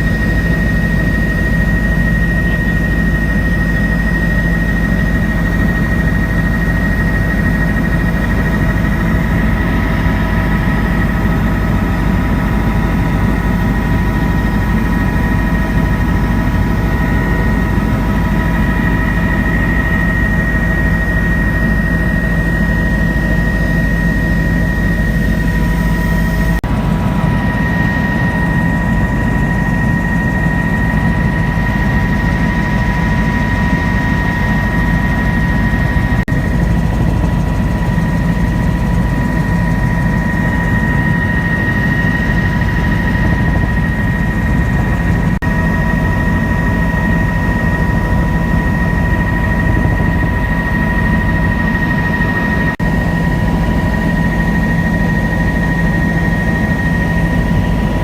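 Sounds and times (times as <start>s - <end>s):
helicopter rotor rumble: 0.0s - 58.0s
high whine: 0.0s - 58.0s.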